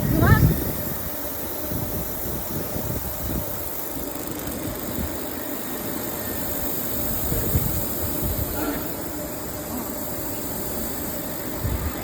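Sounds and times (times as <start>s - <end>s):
welding machinery hum: 0.0s - 12.0s.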